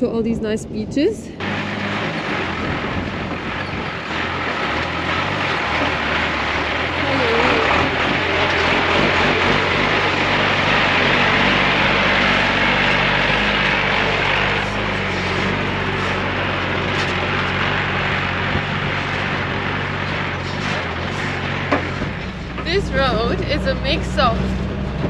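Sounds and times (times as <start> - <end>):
truck engine drone: 0.0 - 25.0
tyre and road noise: 0.0 - 25.0.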